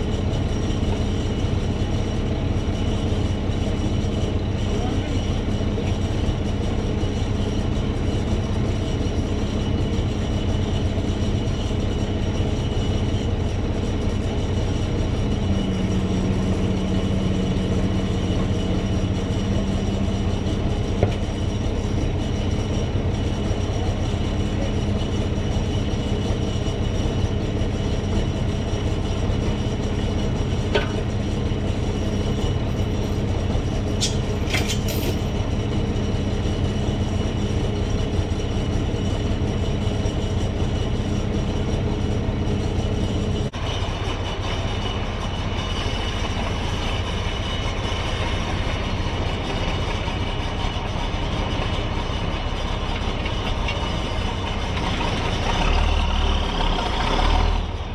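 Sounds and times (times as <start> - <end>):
heavy engine running: 0.0 - 57.9.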